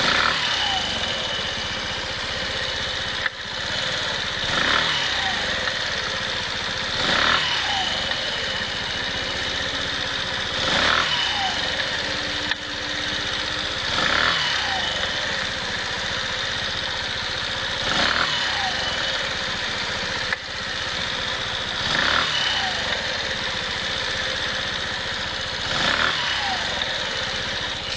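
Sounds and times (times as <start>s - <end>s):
motorcycle engine revving and idling: 0.0s - 27.9s.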